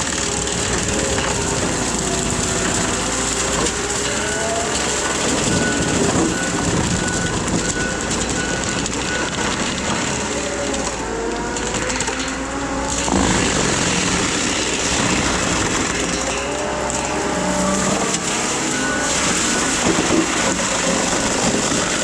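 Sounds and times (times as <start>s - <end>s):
skid steer mulching head running: 0.0s - 22.0s.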